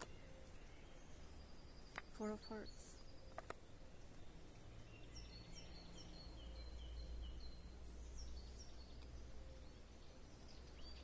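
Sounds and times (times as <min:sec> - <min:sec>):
songbird singing high notes: 0:00.1 - 0:11.0.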